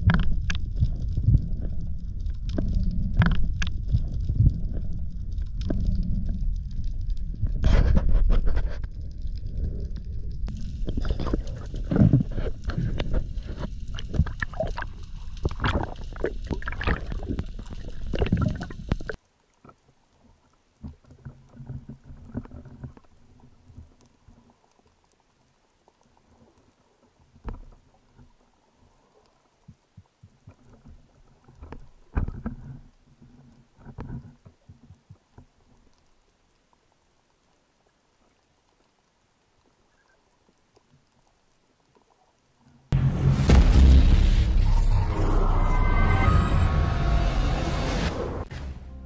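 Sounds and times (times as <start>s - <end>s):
rushing water underwater: 0.0s - 48.3s
faint underwater ambience: 0.0s - 49.0s.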